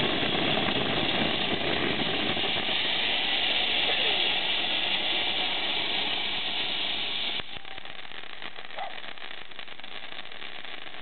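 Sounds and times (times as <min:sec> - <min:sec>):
background hiss: 0:00.0 - 0:11.0
firework hissing: 0:00.0 - 0:11.0.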